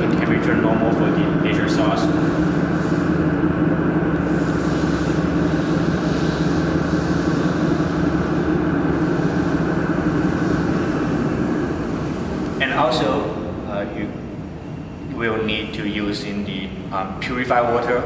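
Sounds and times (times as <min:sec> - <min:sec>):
fan-like rushing noise: 0:00.0 - 0:18.0
machine humming: 0:00.0 - 0:18.0.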